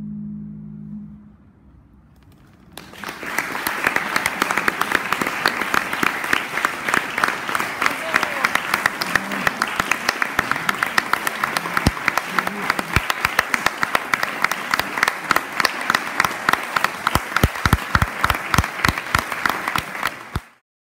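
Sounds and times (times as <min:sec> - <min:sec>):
audience applauding: 0:02.3 - 0:20.6
loud heavy claps: 0:02.7 - 0:20.6.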